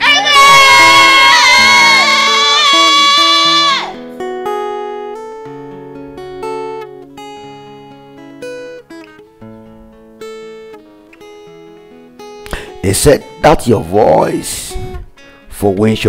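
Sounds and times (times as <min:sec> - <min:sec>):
plucked chords: 0:02.1 - 0:16.0.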